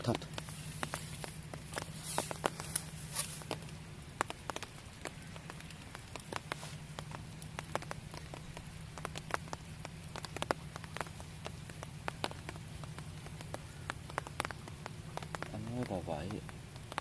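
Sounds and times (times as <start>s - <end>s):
heavy rain on pond water: 0.0s - 17.0s
raindrops ticking close by: 0.0s - 17.0s.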